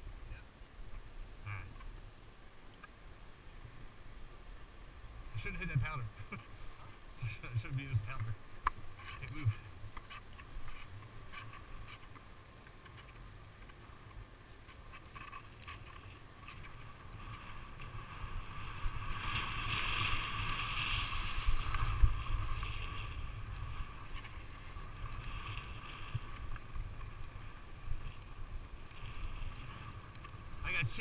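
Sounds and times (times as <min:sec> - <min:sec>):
wind rumbling on microphone: 0:00.0 - 0:31.0
skis scraping over snow: 0:05.4 - 0:31.0.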